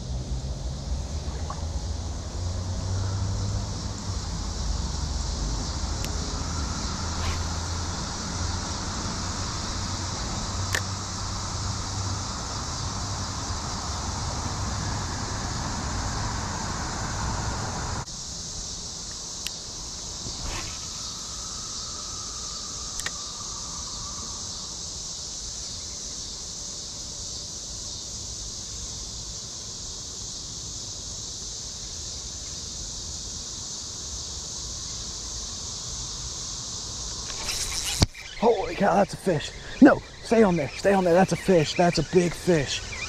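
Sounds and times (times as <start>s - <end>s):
insects chorus: 0.0s - 43.0s.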